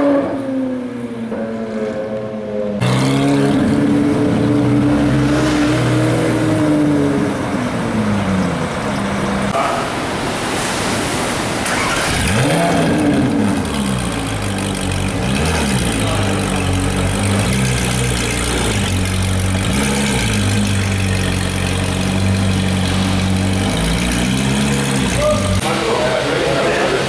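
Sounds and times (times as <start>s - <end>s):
car engine revving and idling: 0.0s - 9.6s, 11.6s - 27.0s.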